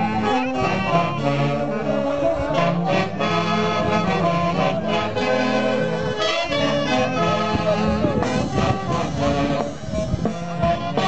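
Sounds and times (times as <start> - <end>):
live band dance music: 0.0 - 11.0
wind instruments melody: 0.0 - 11.0.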